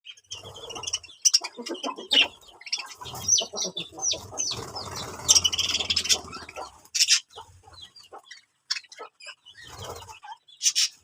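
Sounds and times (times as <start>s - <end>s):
high falling bird chirps: 0.0s - 11.0s
low coarse bird calls: 0.1s - 11.0s.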